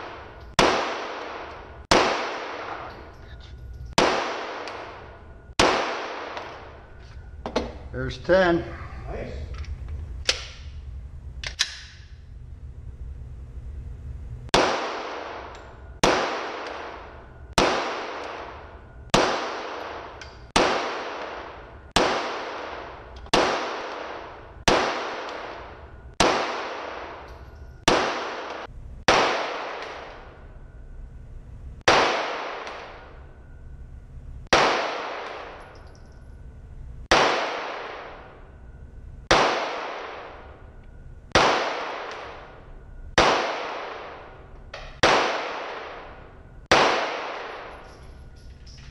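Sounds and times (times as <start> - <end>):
pistol shots echoing indoors: 0.0 - 7.8, 11.4 - 12.2, 14.5 - 30.9, 31.8 - 33.7, 34.4 - 48.9.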